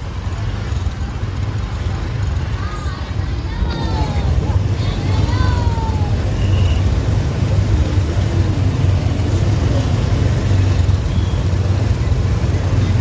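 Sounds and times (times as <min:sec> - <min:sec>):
faint voices: 0:00.0 - 0:13.0
road traffic rumble: 0:00.0 - 0:13.0.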